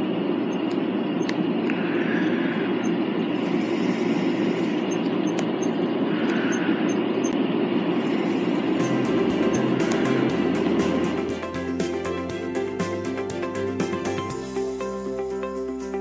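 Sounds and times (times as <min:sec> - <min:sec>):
low rumbling noise: 0:00.0 - 0:13.7.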